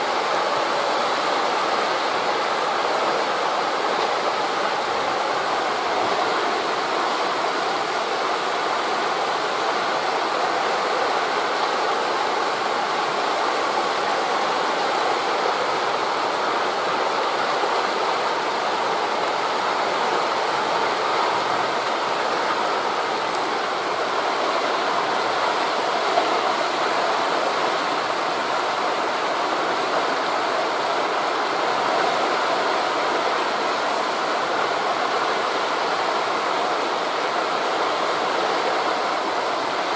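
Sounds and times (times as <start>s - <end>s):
sea surf rushing: 0.0s - 39.9s
wind through tree leaves: 0.0s - 39.9s.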